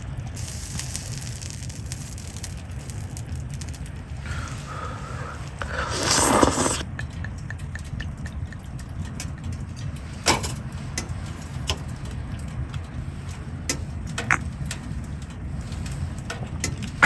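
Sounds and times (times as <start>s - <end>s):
campfire burning: 0.0s - 17.0s
fire popping and crackling: 0.0s - 17.0s.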